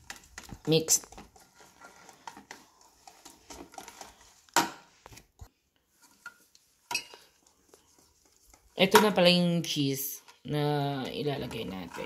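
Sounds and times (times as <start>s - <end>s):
whisk clicking and scraping in bowl: 0.0s - 4.6s, 6.0s - 12.0s.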